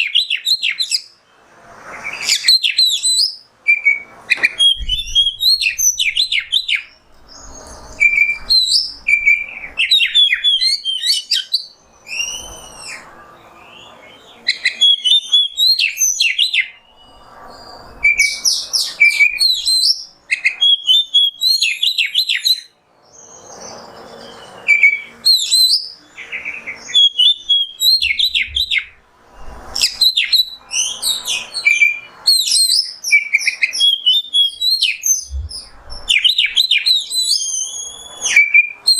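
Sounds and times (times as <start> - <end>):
songbird whistles and chirps: 0.0 - 38.9.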